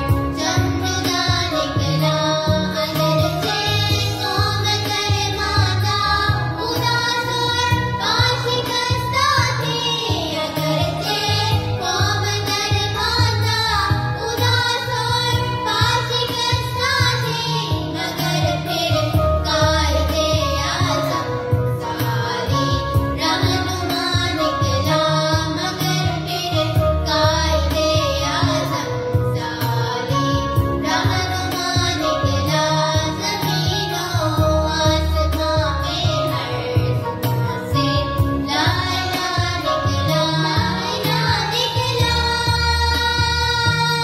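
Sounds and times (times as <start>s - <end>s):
children singing: 0.0s - 44.0s
instrumental backing with low beat: 0.0s - 44.0s.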